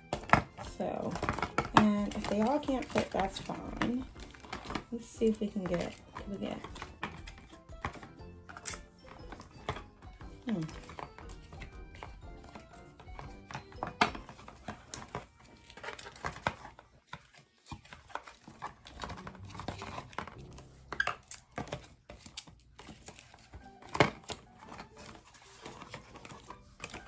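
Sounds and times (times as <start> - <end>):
plastic clicks and knocks: 0.0 - 27.0
wrappers crinkling: 0.0 - 27.0.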